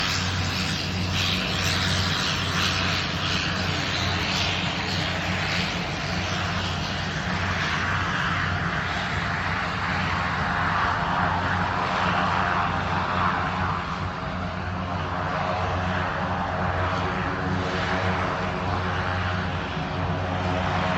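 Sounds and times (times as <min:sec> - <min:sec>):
aircraft engines taking off: 0:00.0 - 0:20.9
steady low hum: 0:00.0 - 0:20.9.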